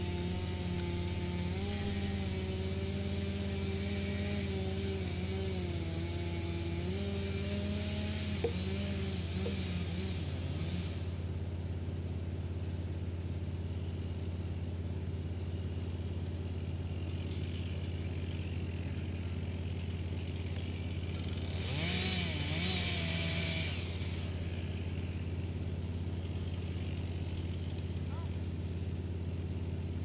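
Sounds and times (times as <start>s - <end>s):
wood grinding through chipper: 0.0s - 11.2s, 15.8s - 30.0s
wood chipper engine humming: 0.0s - 30.0s.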